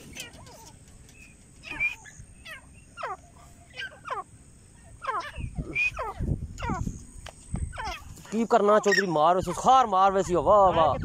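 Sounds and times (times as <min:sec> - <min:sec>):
francolin calling: 0:00.0 - 0:11.0.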